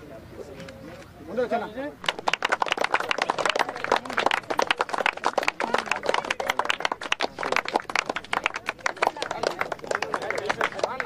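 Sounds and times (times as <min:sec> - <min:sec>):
faint voices: 0:00.0 - 0:11.0
people clapping: 0:02.0 - 0:11.0.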